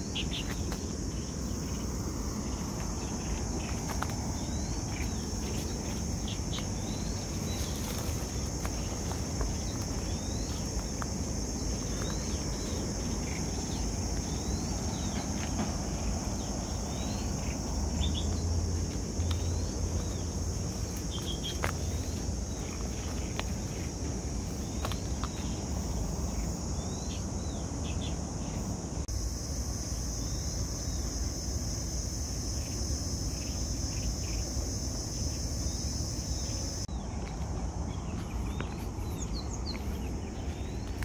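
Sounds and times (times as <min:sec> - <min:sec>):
insects chorus: 0:00.0 - 0:41.0.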